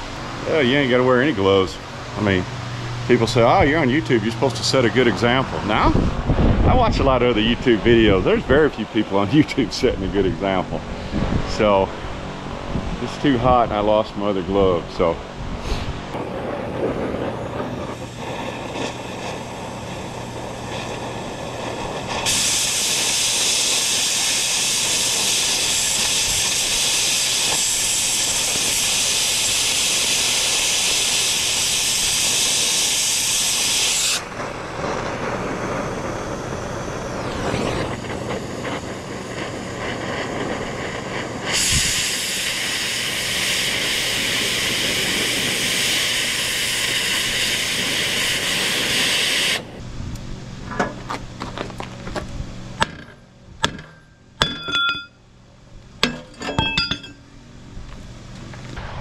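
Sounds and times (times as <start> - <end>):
cutting torch hissing: 0.0 - 49.8.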